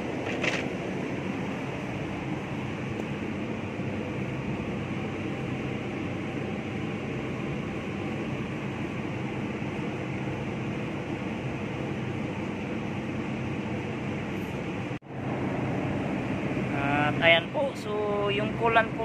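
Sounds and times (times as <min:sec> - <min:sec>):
machine droning: 0:00.0 - 0:19.0.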